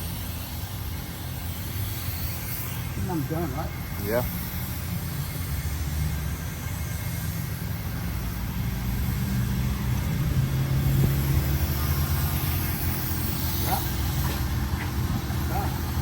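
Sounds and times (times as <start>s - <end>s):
motor running with low rumble: 0.0s - 16.0s.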